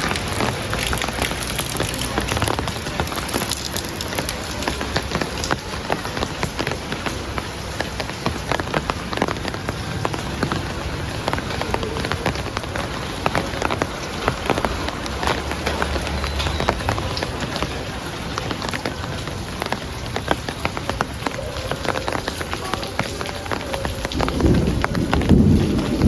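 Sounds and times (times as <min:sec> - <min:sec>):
heavy rain hiss: 0:00.0 - 0:26.0
raindrops tapping hard surface: 0:00.0 - 0:26.0.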